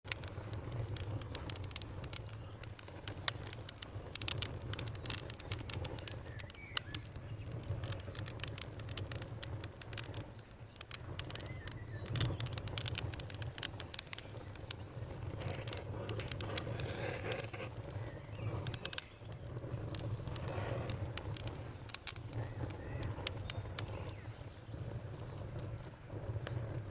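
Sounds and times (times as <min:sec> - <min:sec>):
campfire crackling and popping: 0:00.0 - 0:26.9
low rumble of flames: 0:00.0 - 0:26.9.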